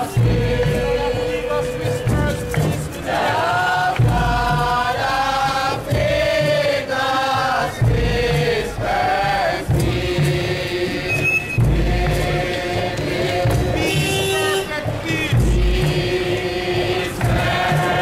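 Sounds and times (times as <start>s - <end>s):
crowd chanting in drawn-out notes: 0.0s - 18.0s
steady low beat: 0.0s - 18.0s.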